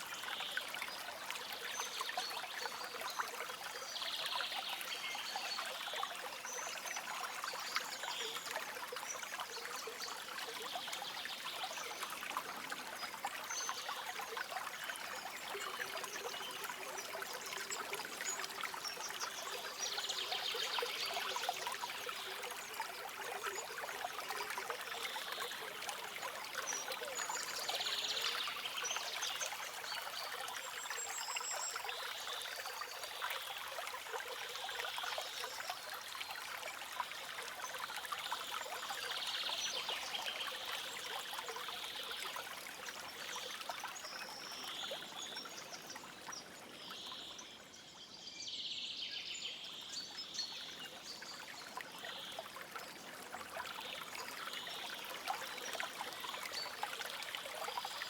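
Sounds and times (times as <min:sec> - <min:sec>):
stream water splashing over rocks: 0:00.0 - 0:47.5, 0:49.6 - 0:58.0.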